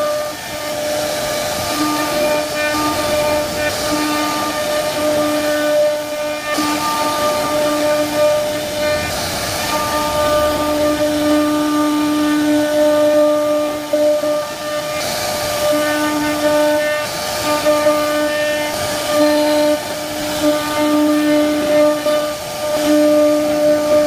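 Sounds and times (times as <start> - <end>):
bit cutting wood hiss: 0.0 - 24.0
router spindle high whine: 0.0 - 24.0.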